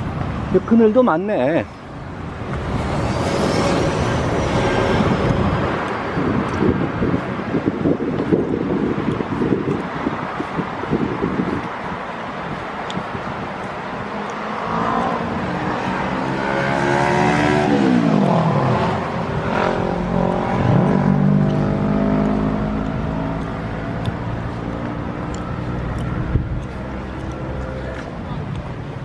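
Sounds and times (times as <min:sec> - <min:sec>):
vehicle engines passing: 0:00.0 - 0:29.0.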